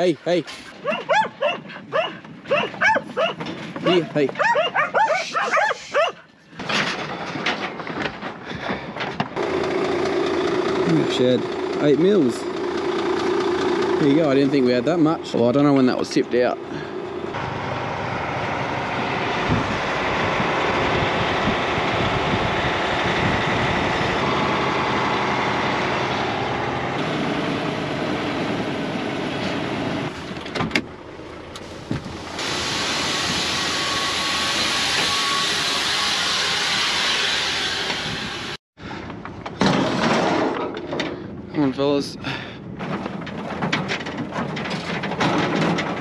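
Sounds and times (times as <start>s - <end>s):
vehicle engine and road noise: 0.0s - 46.0s.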